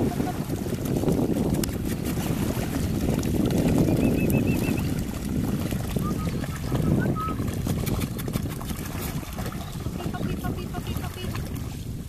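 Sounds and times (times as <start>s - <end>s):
dogs splashing in water: 0.0s - 11.8s
wind noise on microphone: 0.0s - 12.0s.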